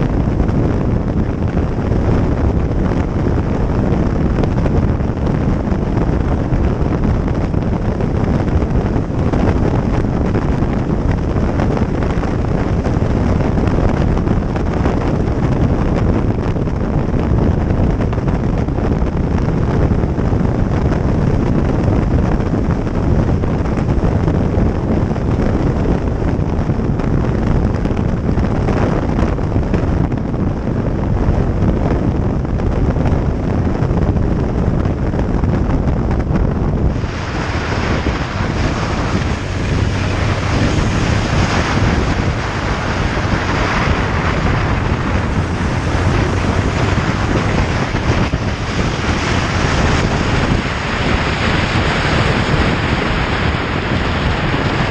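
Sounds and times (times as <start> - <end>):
motorcycle running: 0.0 - 54.9
wind rushing over microphone: 0.0 - 54.9.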